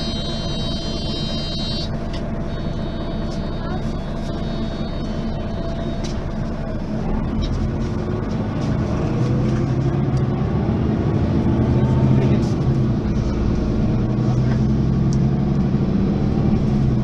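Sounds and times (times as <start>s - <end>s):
city bus engine running: 0.0s - 17.0s.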